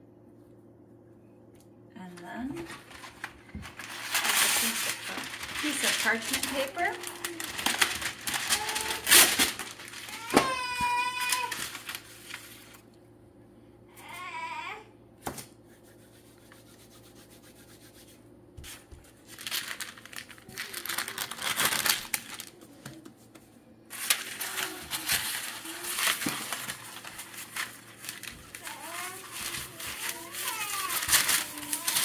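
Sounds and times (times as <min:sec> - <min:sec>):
parchment paper crinkling: 0:02.6 - 0:12.9, 0:16.5 - 0:32.0.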